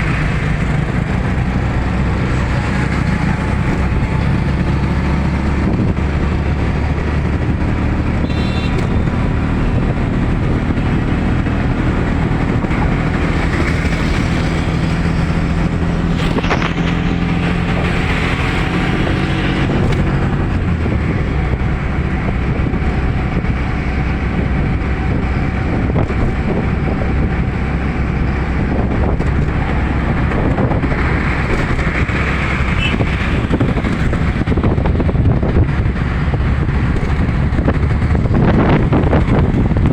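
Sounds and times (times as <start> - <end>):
traffic noise: 0.0 - 39.9
vehicle engine rumble: 0.0 - 39.9.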